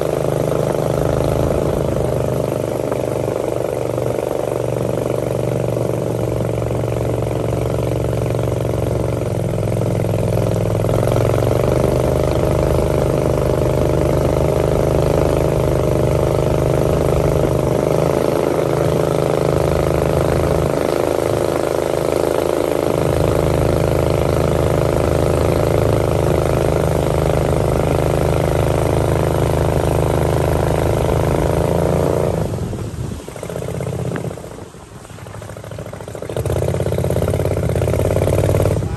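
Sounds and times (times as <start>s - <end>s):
motorboat engine running: 0.0s - 38.9s
water rushing past hull: 0.0s - 38.9s.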